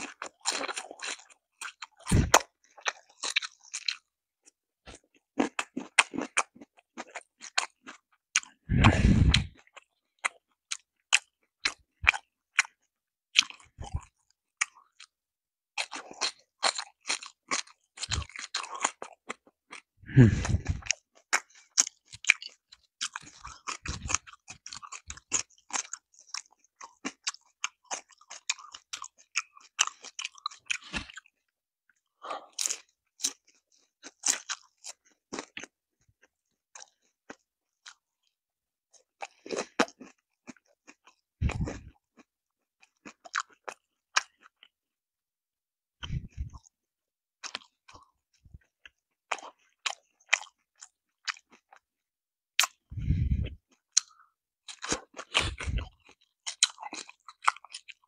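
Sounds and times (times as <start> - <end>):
crunchy chewing: 0.0 - 15.1, 15.8 - 31.5, 32.2 - 44.7, 47.4 - 51.8, 52.6 - 58.0.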